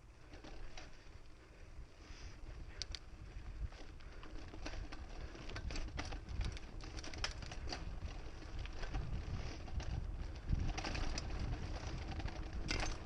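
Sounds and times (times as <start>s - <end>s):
bike clicking and rattling: 0.0s - 13.0s
wind and tyre noise: 0.0s - 13.0s.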